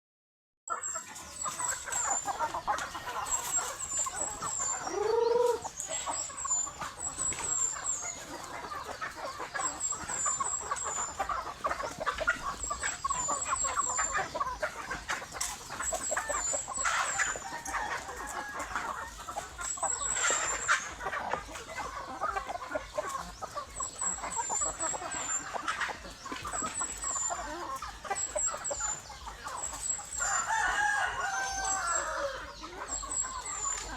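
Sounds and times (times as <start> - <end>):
chickens clucking: 0.7 - 33.9
drawn-out chicken call: 0.7 - 33.9.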